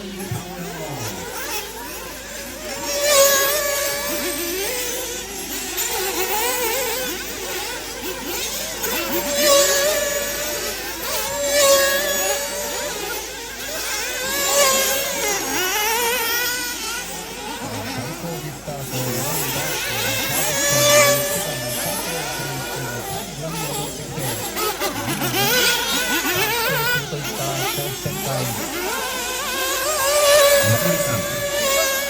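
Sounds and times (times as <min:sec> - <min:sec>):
model car engines buzzing and revving: 0:00.0 - 0:32.0.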